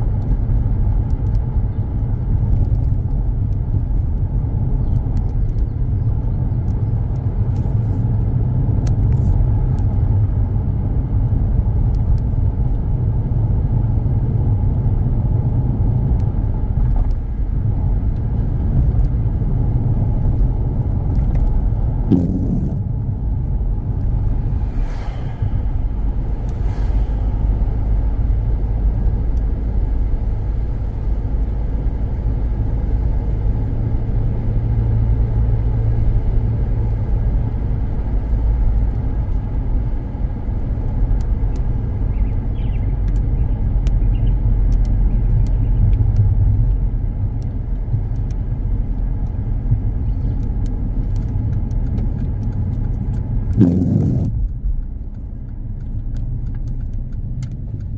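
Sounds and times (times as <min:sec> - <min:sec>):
road and engine rumble: 0:00.0 - 0:57.9.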